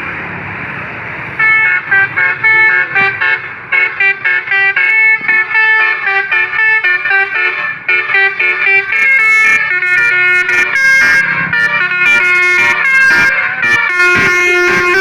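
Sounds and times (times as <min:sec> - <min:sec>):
bus horn playing a tune: 0:01.2 - 0:15.0.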